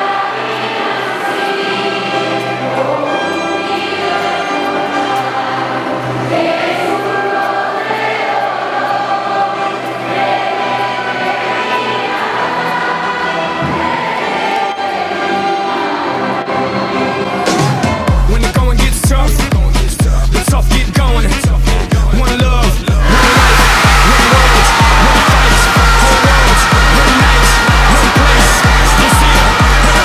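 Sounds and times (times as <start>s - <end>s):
choir singing held notes: 0.0s - 18.1s, 22.9s - 30.0s.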